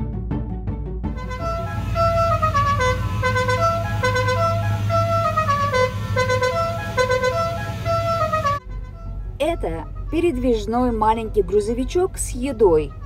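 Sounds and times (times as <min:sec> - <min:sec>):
steady low drone: 0:00.0 - 0:10.8.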